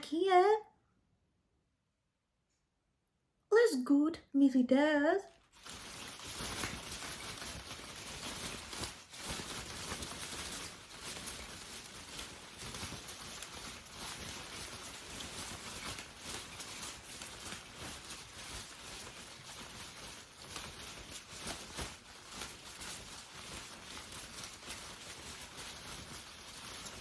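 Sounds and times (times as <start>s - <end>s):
rain pattering: 5.3s - 27.0s.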